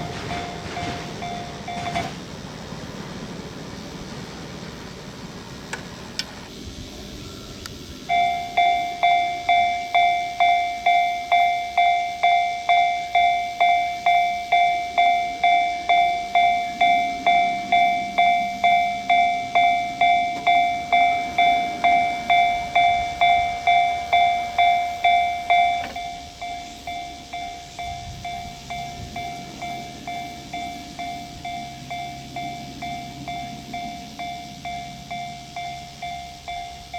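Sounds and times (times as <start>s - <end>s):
level-crossing warning bell: 0.0s - 36.9s.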